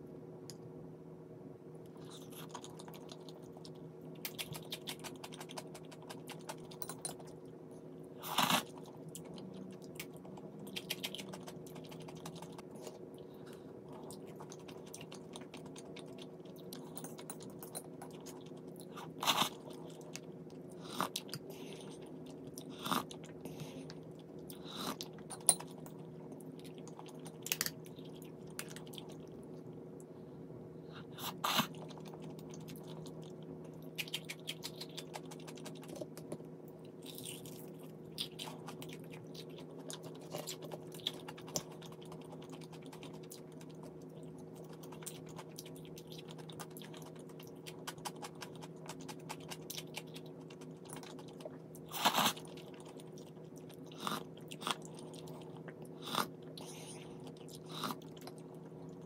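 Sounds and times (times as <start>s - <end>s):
steady low hum: 0.0s - 59.0s
person chewing crunchy food: 1.9s - 7.6s, 8.2s - 29.4s, 31.2s - 59.0s.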